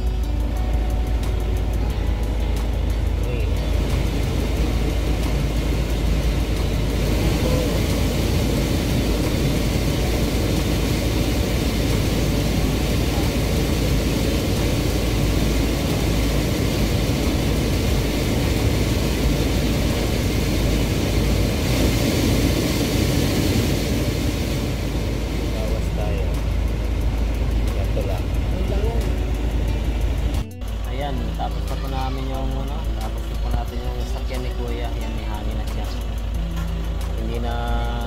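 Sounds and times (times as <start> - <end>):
blower fan rushing air: 0.0 - 38.0
car engine idling: 0.0 - 38.0.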